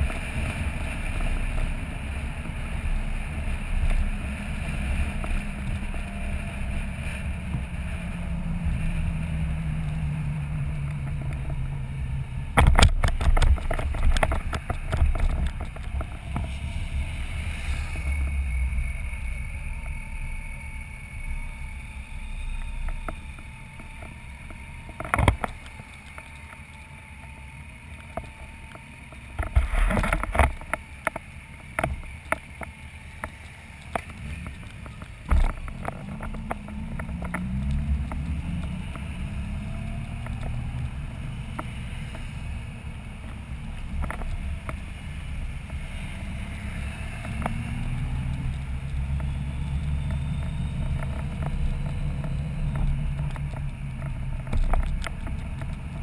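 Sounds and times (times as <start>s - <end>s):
motorcycle engine hum rising: 0.0s - 56.0s
wind and road noise: 0.0s - 56.0s.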